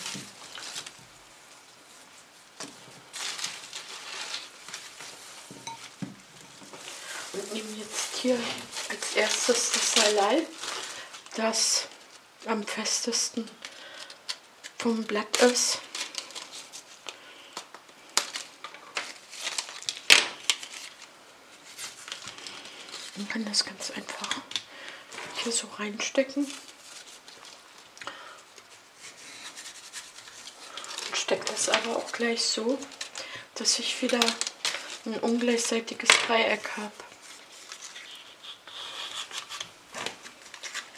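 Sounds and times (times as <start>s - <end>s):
flower stems and leaves rustling: 0.0s - 13.6s, 14.6s - 28.0s, 28.6s - 40.9s.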